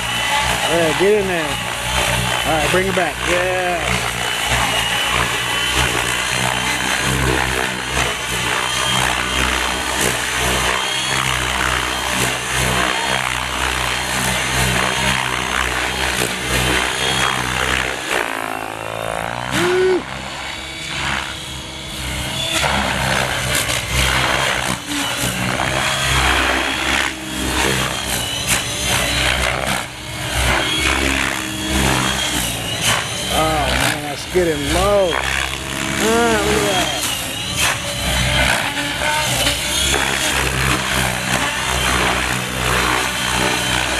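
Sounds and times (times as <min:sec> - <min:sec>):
rc helicopter rotor and motor: 0:00.0 - 0:43.9.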